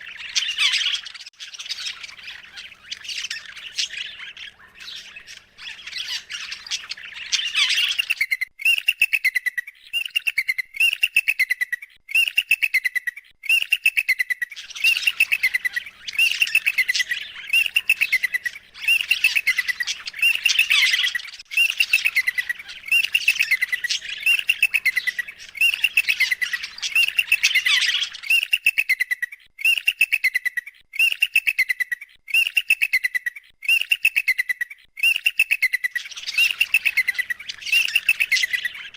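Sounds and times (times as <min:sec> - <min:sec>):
bird squawks: 0:00.0 - 0:38.9
rapid bird chattering calls: 0:00.0 - 0:38.9.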